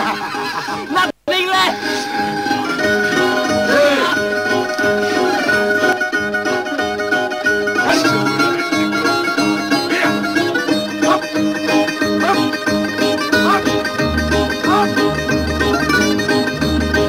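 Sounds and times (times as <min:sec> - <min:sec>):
plucked-string melody: 0:01.6 - 0:17.0
repeating bass notes: 0:01.7 - 0:17.0.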